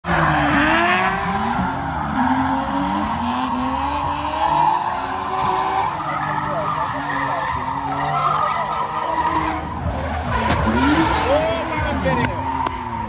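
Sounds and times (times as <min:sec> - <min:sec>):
car engines revving: 0:00.0 - 0:13.0
tyres squealing: 0:00.1 - 0:13.0.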